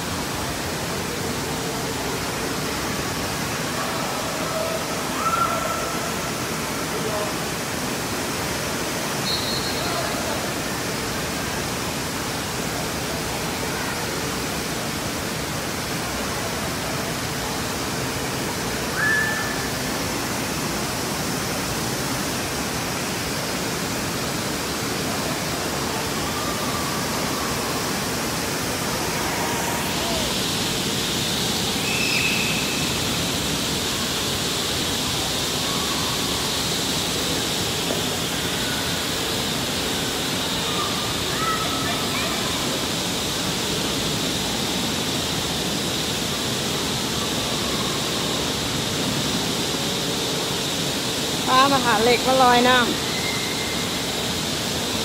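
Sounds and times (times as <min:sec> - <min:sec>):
water rushing and splashing: 0:00.0 - 0:55.0.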